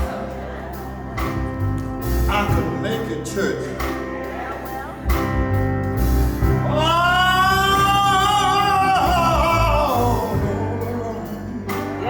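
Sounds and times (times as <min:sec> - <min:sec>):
band with steady bass: 0:00.0 - 0:12.0.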